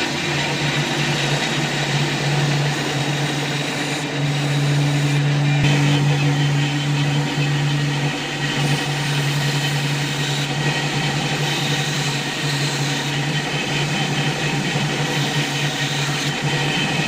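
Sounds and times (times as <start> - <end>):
electric tool motor humming: 0.0 - 17.0.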